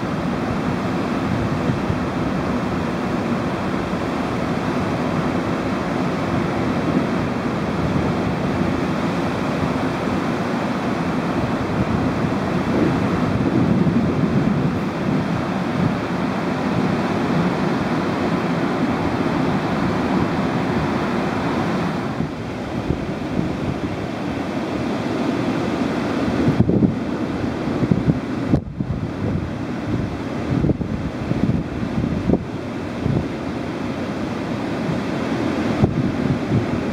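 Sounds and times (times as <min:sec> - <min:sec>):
small waves breaking: 0:00.0 - 0:36.9
wind buffeting microphone: 0:00.0 - 0:36.9.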